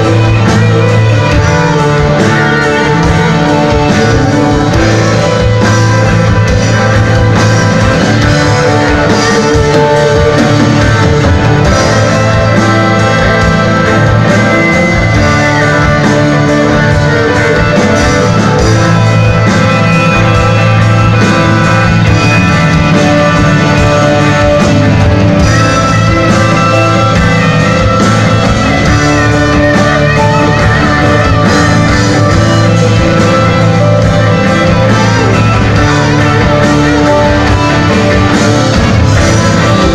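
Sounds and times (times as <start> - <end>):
bass guitar: 0.0 - 39.9
drums: 0.0 - 39.9
electric guitars: 0.0 - 39.9
keyboards: 0.0 - 39.9
rock band playing live: 0.0 - 39.9.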